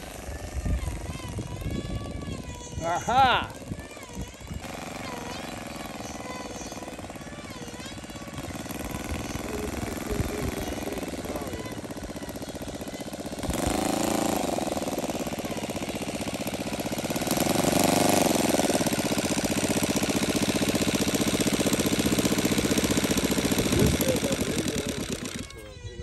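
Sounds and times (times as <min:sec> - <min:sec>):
engine throttle blips: 0:00.0 - 0:26.0
model radial engine running: 0:00.0 - 0:26.0.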